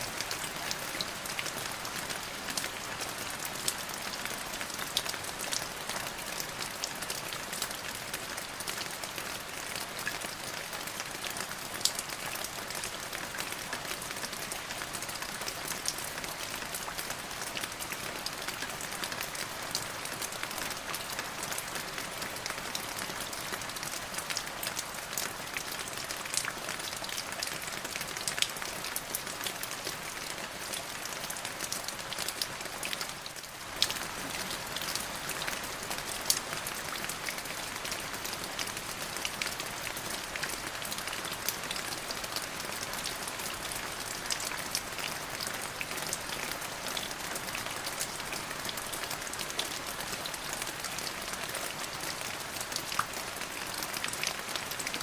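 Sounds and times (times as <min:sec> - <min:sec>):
rain drops on hard surface: 0:00.0 - 0:55.0.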